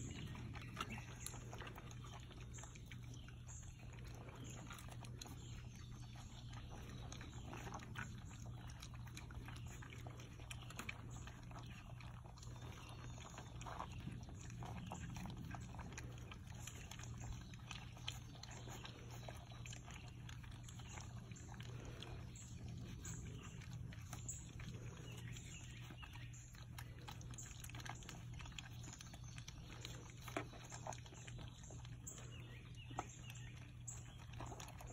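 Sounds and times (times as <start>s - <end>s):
puppies crunching kibble: 0.0s - 34.9s
puppies snuffling: 0.0s - 34.9s
steady low hum: 0.0s - 34.9s.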